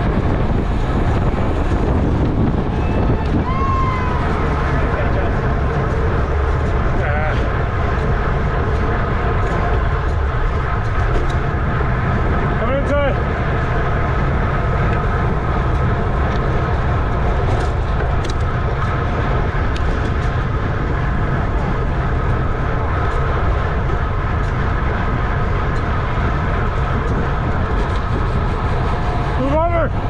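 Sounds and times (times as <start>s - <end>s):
faint bicycle whir: 0.0s - 30.0s
wind rushing over microphone: 0.0s - 30.0s.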